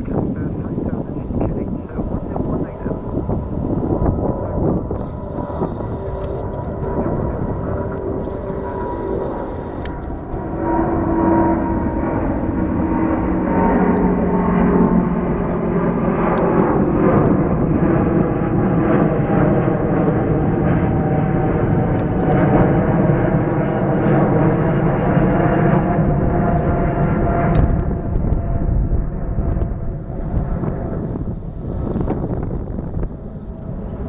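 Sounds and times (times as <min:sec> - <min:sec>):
jet airliner rumble passing: 0:00.0 - 0:34.0.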